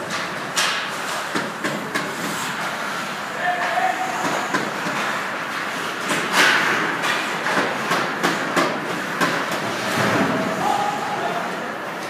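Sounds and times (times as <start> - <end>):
hockey sticks and puck clacking: 0.0 - 10.9.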